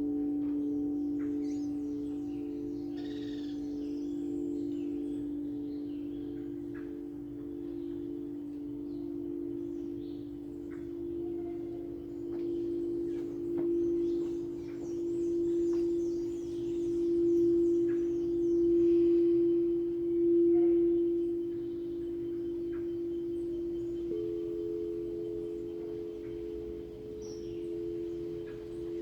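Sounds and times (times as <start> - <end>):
faint high tinkling notes: 0.0 - 29.0
higher singing bowl tone: 0.0 - 29.0
singing bowl ringing: 0.0 - 29.0.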